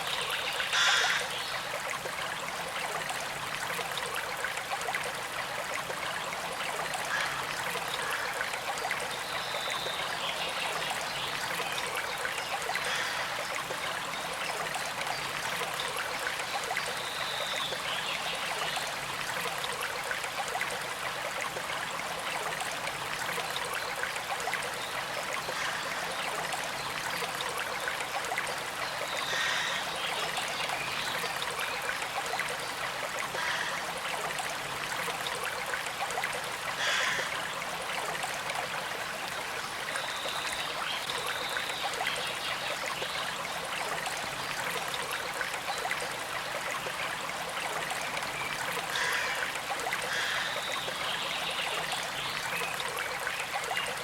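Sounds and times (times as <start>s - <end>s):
creek trickling: 0.0s - 54.0s.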